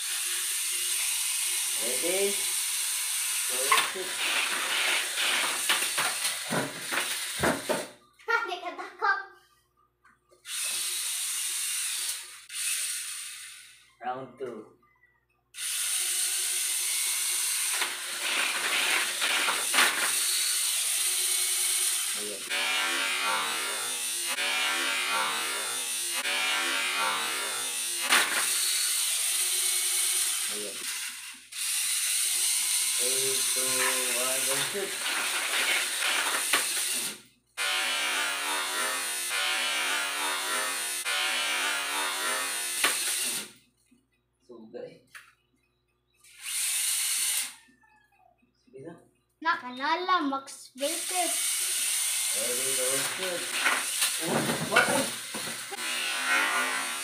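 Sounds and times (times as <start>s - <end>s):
small electric motor whining: 0.0s - 7.7s, 10.4s - 14.0s, 15.6s - 43.6s, 46.2s - 47.6s, 50.8s - 57.0s.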